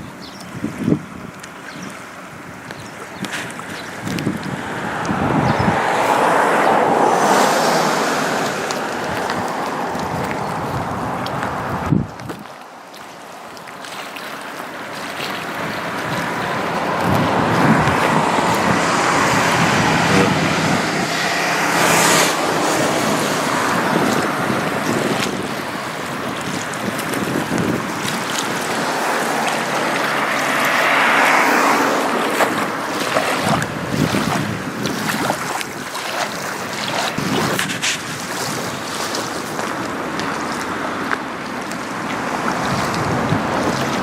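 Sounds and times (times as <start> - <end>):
wind noise on microphone: 0.0 - 12.7, 15.0 - 44.0
water rushing and splashing: 0.0 - 44.0.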